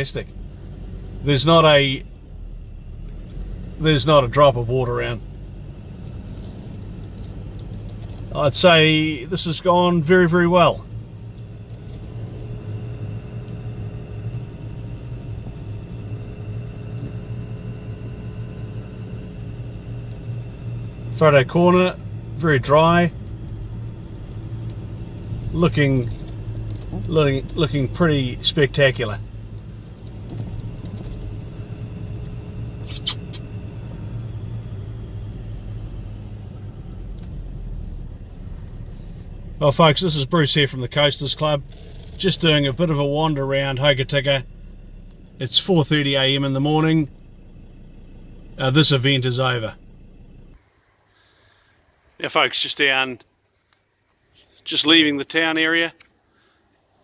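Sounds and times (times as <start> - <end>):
faint high whine: 0.0 - 57.0
vehicle engine rumble: 0.0 - 57.0.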